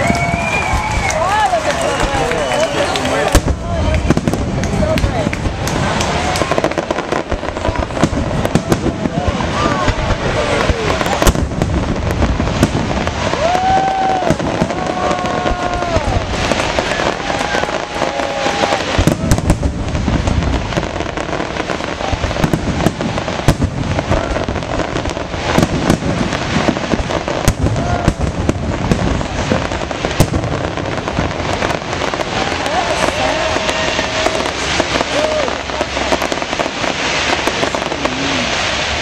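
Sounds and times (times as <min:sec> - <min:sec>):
fireworks popping and banging: 0:00.0 - 0:39.0.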